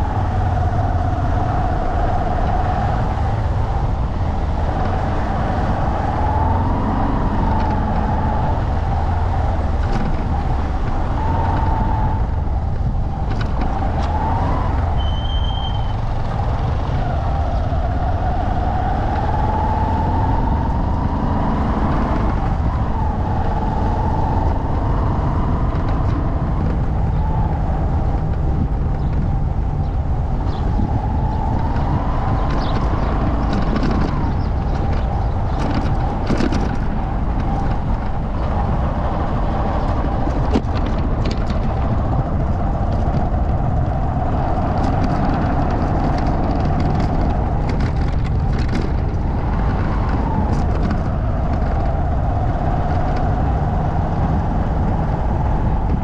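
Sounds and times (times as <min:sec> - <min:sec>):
low rumble: 0:00.0 - 0:56.0
vehicle engine droning: 0:00.0 - 0:56.0.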